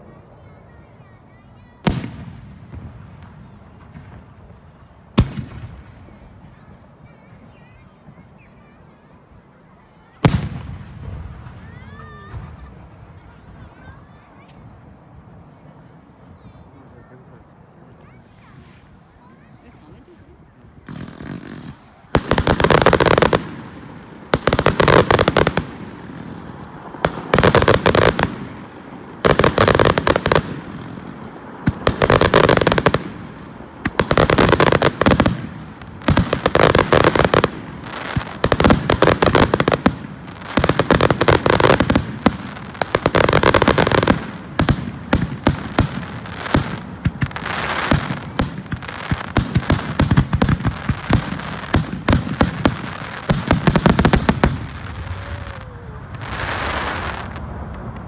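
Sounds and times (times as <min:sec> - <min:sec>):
fireworks bursting with crackling pops: 0:00.0 - 0:58.0.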